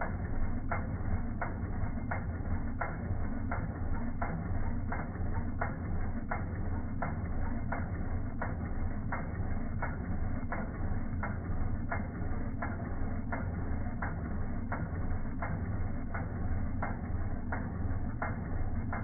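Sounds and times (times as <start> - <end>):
sewing machine motor hum: 0.0 - 19.0.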